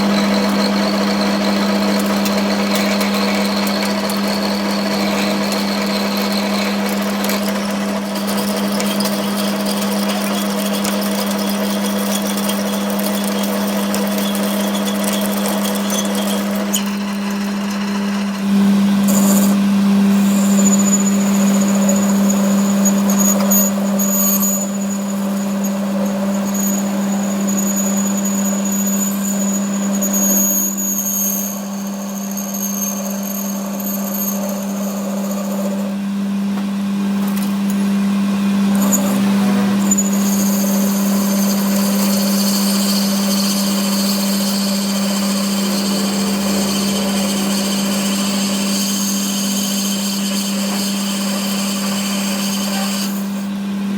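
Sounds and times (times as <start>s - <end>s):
high machine whine: 0.0s - 53.9s
workshop machine humming: 0.0s - 53.9s.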